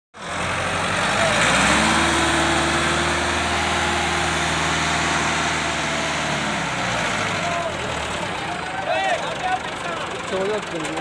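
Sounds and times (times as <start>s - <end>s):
tractor engines running: 0.2s - 11.0s.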